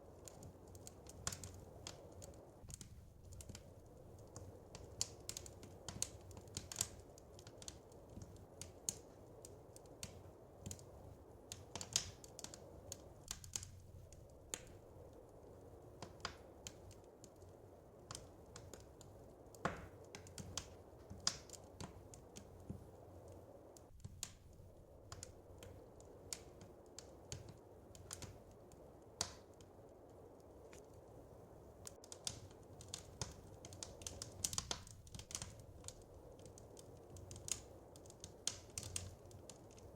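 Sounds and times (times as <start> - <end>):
soft steady low rush: 0.0 - 39.9
wood fire crackling: 0.0 - 39.9.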